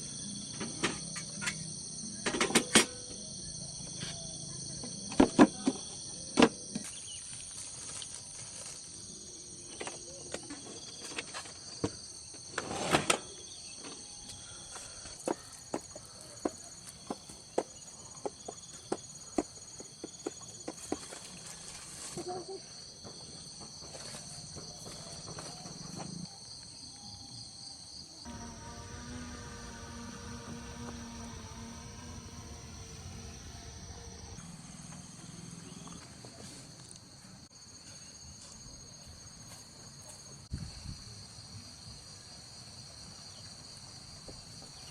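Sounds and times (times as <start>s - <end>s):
crickets and insects calling: 0.0s - 44.9s.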